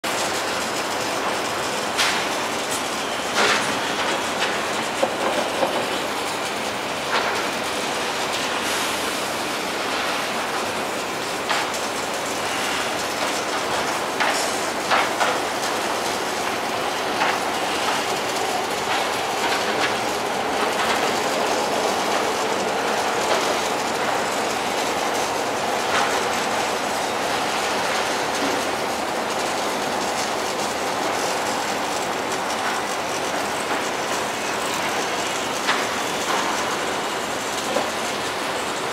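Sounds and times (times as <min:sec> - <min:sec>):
trains rumbling on tracks: 0:00.0 - 0:38.9.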